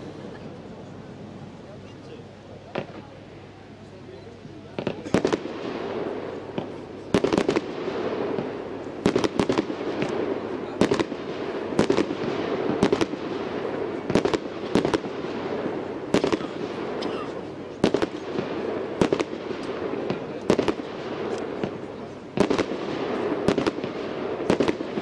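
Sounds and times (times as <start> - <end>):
hiss and rumble of fireworks: 0.0 - 25.0.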